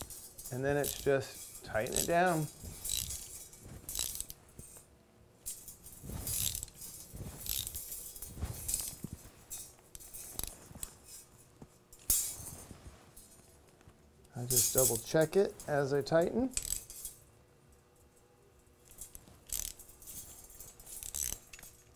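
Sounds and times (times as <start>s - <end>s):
metal tool clinks and rattles: 0.0s - 13.4s, 14.4s - 15.9s, 16.5s - 18.2s, 18.8s - 21.9s.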